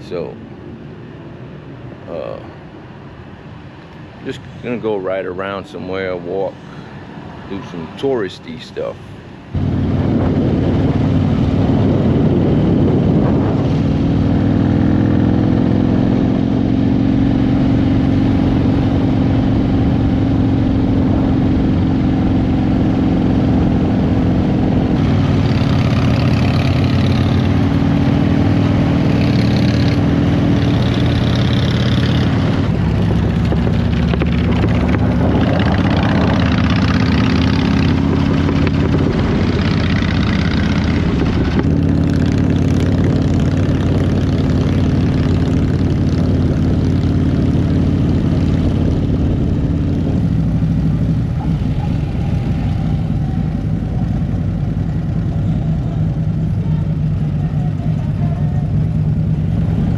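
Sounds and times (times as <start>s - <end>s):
motorcycle engine running: 9.6s - 59.9s.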